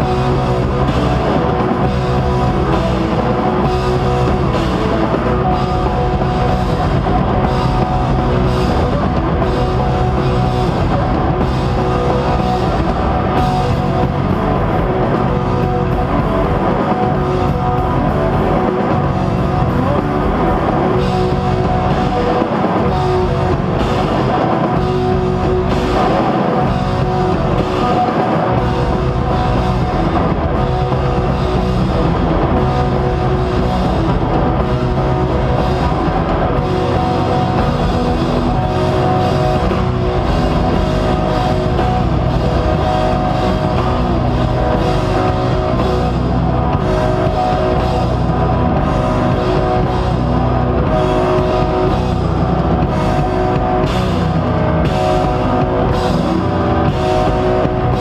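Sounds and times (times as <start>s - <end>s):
drum and cymbal hits: 0.0s - 58.0s
post-rock band playing loud: 0.0s - 58.0s.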